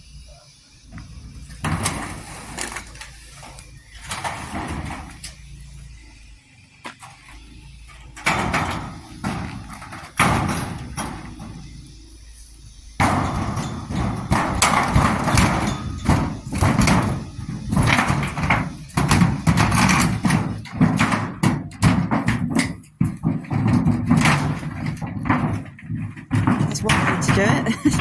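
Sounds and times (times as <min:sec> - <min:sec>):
metal door banging and clattering: 0:01.0 - 0:06.3, 0:06.9 - 0:28.0
thud on metal door: 0:01.6 - 0:05.6, 0:08.0 - 0:12.0, 0:13.0 - 0:28.0.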